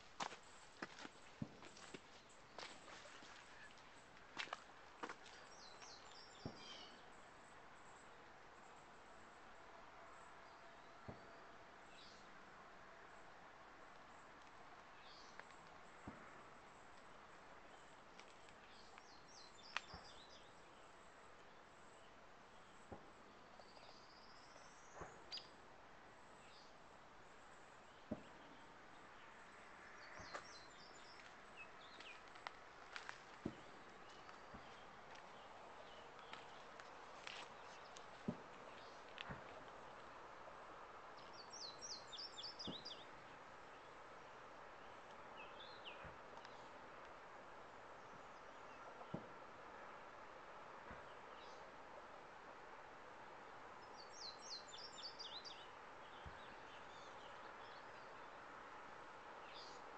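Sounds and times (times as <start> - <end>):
songbird singing: 0.0 - 12.4, 13.0 - 59.9
faint background hiss: 0.0 - 59.9.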